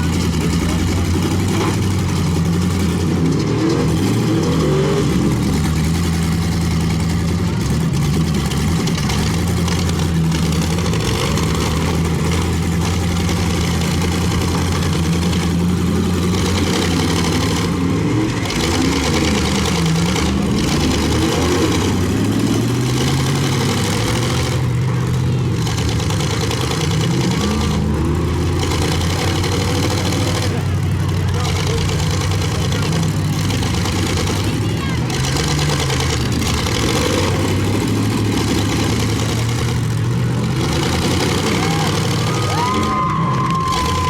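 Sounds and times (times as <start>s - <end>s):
truck engines revving: 0.0s - 44.0s.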